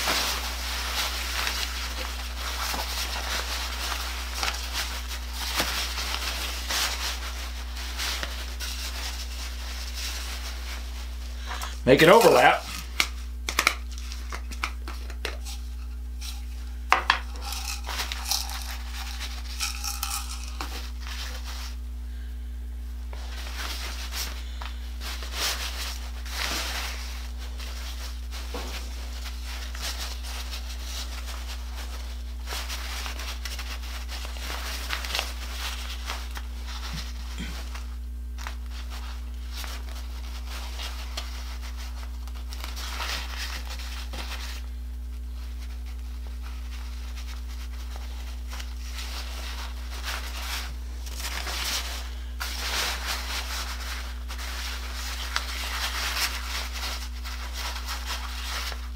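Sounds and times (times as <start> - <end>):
synthetic fabric rustling: 0.0 - 21.9, 22.9 - 58.9.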